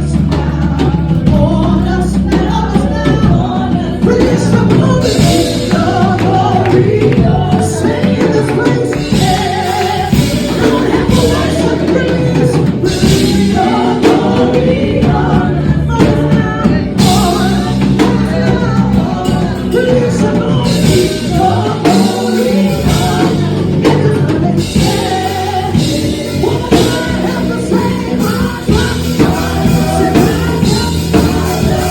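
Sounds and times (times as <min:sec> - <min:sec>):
band with drums: 0:00.0 - 0:31.9
voices singing gospel: 0:00.0 - 0:31.9.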